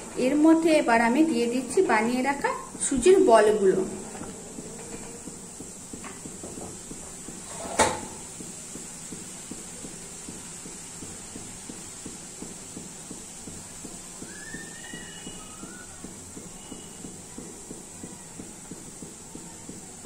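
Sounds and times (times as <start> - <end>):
syrup boiling and crackling: 0.0 - 20.0.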